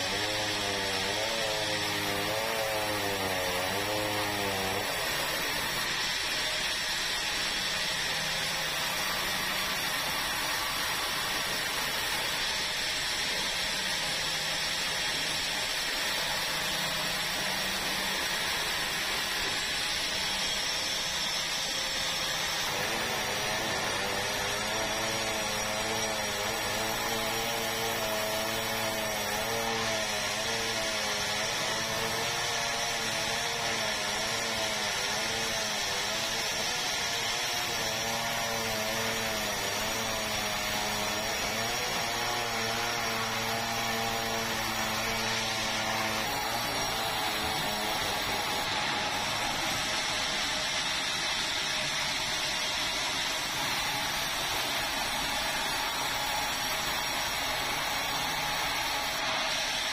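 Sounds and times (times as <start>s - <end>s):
sawmill saw cutting timber: 0.0s - 59.9s.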